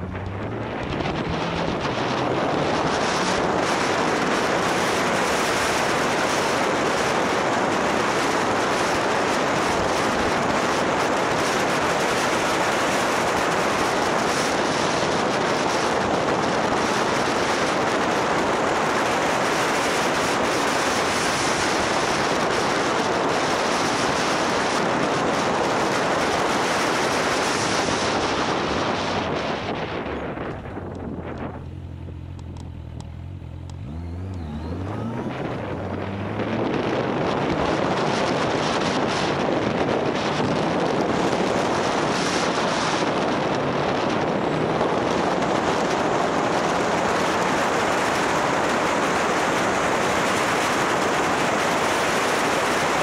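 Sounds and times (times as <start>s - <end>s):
motorcycle engine and road roar: 0.0s - 53.0s
wind rushing over microphone: 0.0s - 53.0s.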